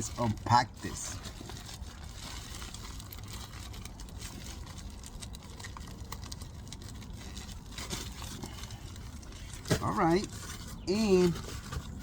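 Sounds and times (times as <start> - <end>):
package unpacking clicks and rustles: 0.0 - 12.0.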